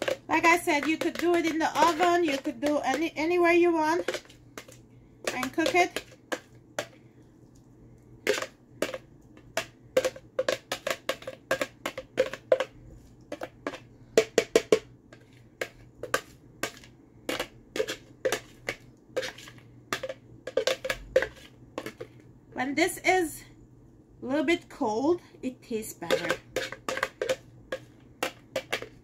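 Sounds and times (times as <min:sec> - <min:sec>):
utensil scraping plastic container: 0:00.0 - 0:07.0, 0:08.2 - 0:09.0, 0:09.6 - 0:22.2, 0:26.0 - 0:29.0.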